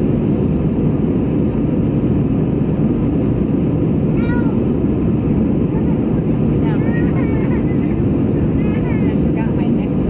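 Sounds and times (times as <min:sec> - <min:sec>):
airplane cabin engine roar: 0:00.0 - 0:10.0.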